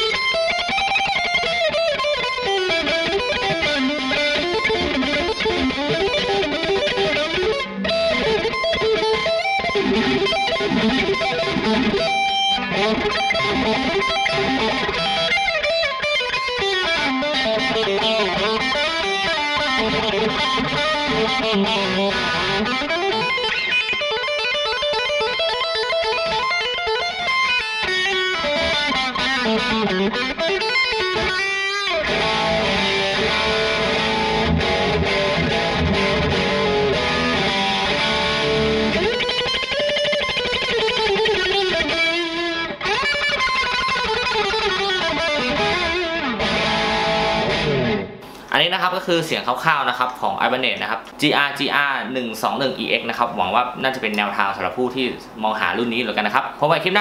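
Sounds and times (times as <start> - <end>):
distorted electric guitar lead: 0.0 - 57.0.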